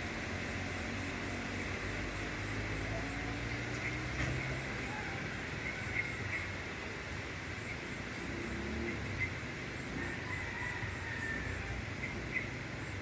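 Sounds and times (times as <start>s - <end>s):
outdoor background hum: 0.0s - 13.0s.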